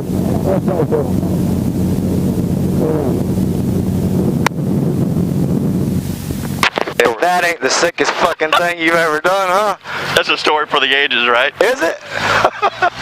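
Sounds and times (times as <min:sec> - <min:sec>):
helicopter engine and rotors: 0:00.0 - 0:13.0.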